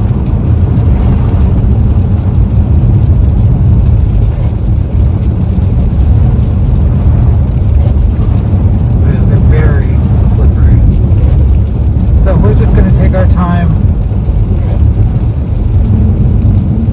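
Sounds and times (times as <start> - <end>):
car engine running: 0.0 - 16.9
tyre and road noise: 0.0 - 16.9.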